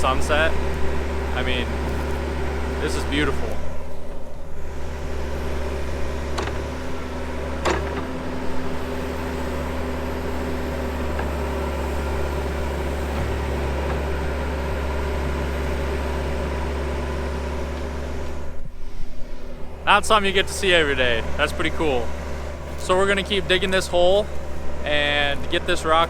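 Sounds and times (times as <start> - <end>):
backhoe engine idling: 0.0 - 26.0.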